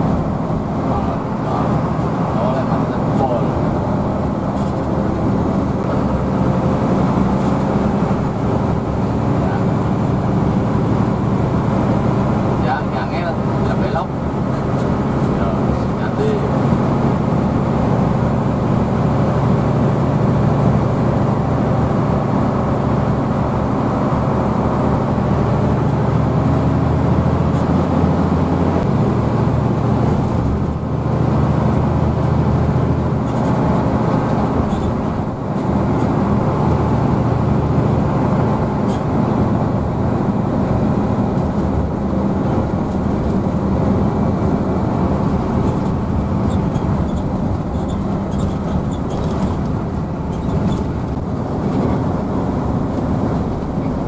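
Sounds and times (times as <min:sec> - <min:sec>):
bus diesel engine drone: 0:00.0 - 0:54.0
road noise: 0:00.0 - 0:54.0.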